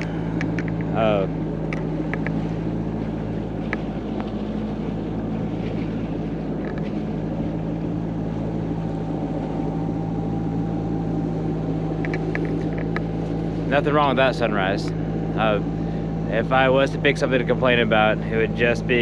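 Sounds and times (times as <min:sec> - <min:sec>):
boat diesel engine running: 0:00.0 - 0:19.0
wind: 0:00.0 - 0:19.0.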